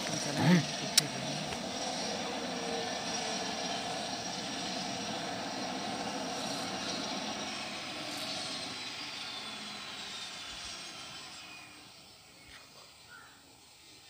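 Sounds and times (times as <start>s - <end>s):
high engine whine gliding down: 0.0s - 14.0s
turboprop engine drone: 0.0s - 14.0s.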